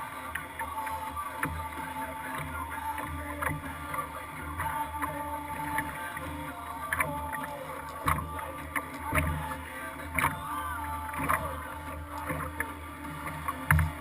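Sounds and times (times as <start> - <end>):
paddle strokes splashing water: 0.0 - 14.0
water rumbling against hull: 0.0 - 14.0.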